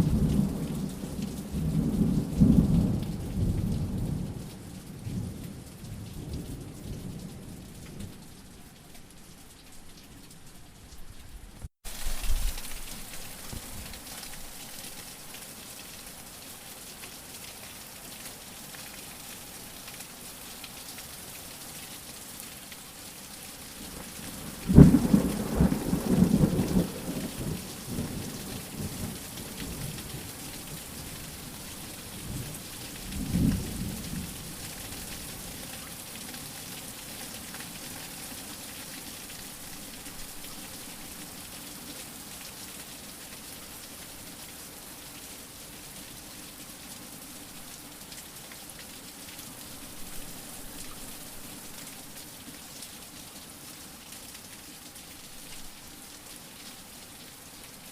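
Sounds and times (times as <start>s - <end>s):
steady rain: 0.0s - 57.9s.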